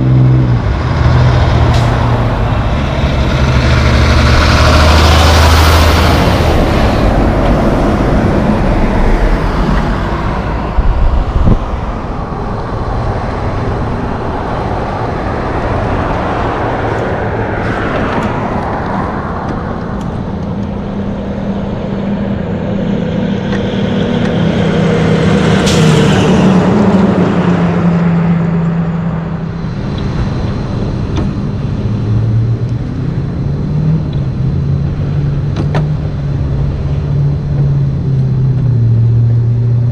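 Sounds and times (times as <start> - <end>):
diesel truck passing: 0.0 - 39.9
traffic engine hum: 0.0 - 39.9.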